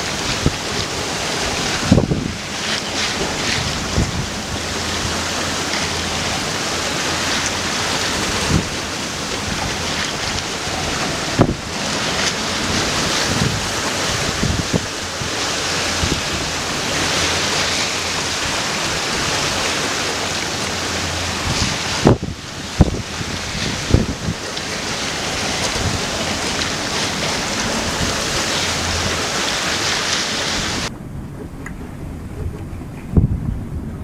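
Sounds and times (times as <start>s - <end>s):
breaking sea: 0.0s - 34.0s
wind buffeting microphone: 0.0s - 34.0s
wind rushing: 0.0s - 34.0s.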